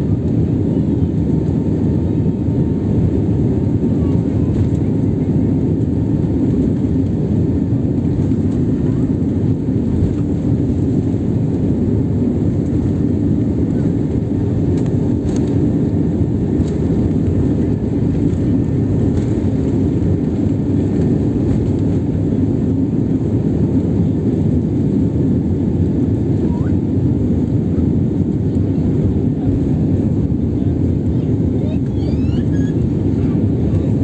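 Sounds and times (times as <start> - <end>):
jet engines deep rumble: 0.0 - 34.0.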